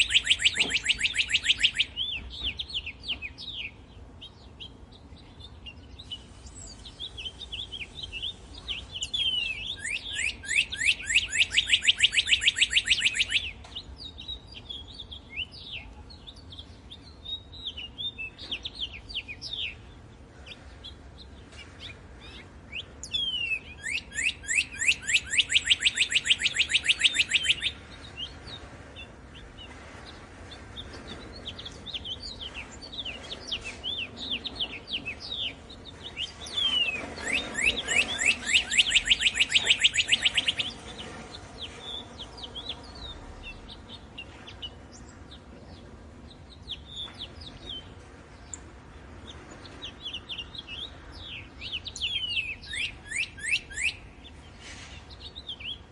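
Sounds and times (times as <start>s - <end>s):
loud rapid bird trill: 0.0s - 45.5s, 46.2s - 55.9s
songbirds chirping: 0.0s - 55.9s.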